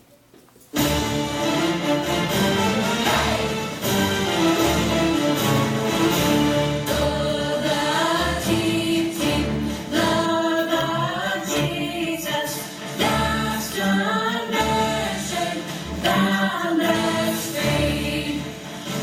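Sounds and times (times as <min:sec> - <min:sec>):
choir singing: 0:01.4 - 0:19.0.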